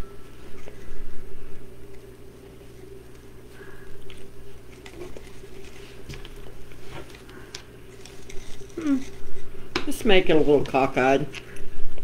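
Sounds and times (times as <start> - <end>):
low background hum: 0.0 - 12.0
mesh and ribbon rustling: 0.3 - 10.7.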